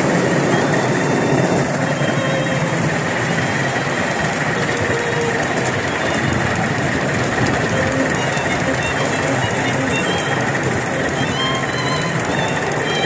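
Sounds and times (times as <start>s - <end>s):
miniature steam train running: 0.0s - 13.0s.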